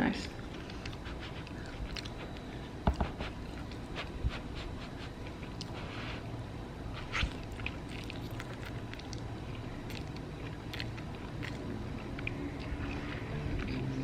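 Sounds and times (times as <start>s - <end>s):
person chewing food: 0.5s - 14.0s.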